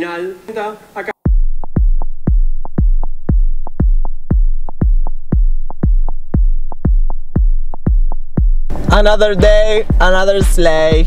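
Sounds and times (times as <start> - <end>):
drum machine kick beat: 1.2 - 11.0.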